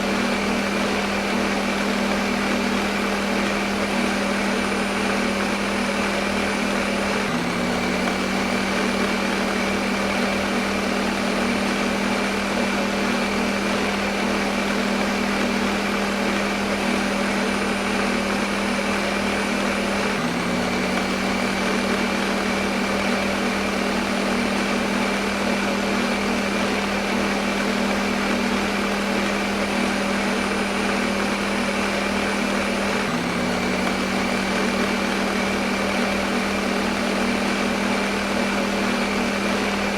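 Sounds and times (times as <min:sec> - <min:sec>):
blender motor whirring: 0:00.0 - 0:39.9.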